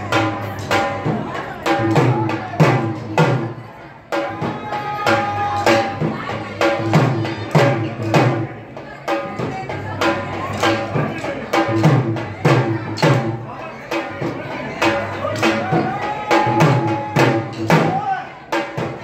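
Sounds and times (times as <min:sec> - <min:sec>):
drum strikes in steady rhythm: 0:00.0 - 0:19.0.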